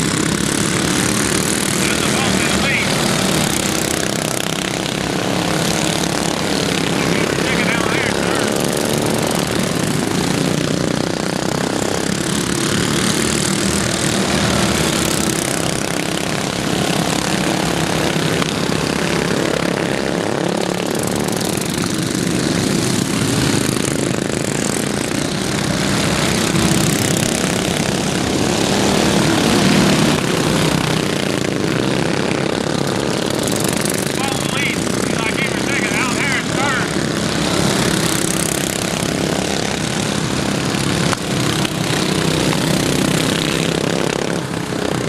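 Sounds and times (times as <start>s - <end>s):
lawn mower engines running hard: 0.0s - 45.0s.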